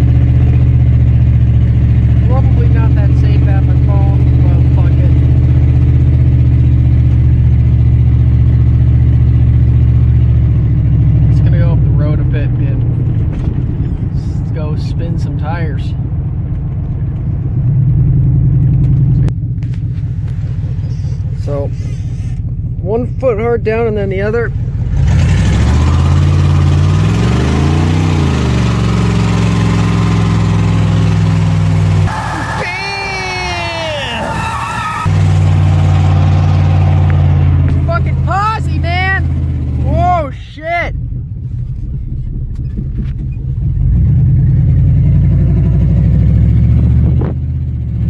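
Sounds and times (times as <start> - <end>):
pickup truck engine revving: 0.0 - 19.3, 23.0 - 48.0.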